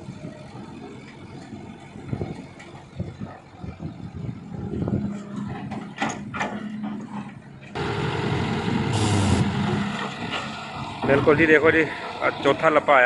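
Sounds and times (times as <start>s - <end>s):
excavator diesel engine under load: 0.0s - 13.0s.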